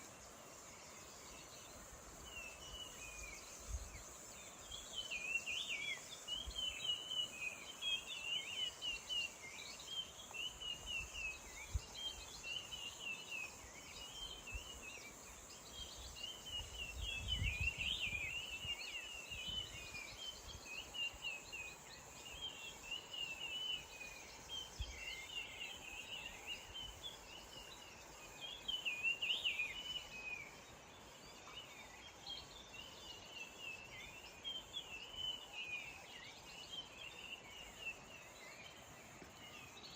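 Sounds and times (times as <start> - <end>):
birds chirping and twittering: 0.0 - 39.9
high insect drone: 0.0 - 39.9.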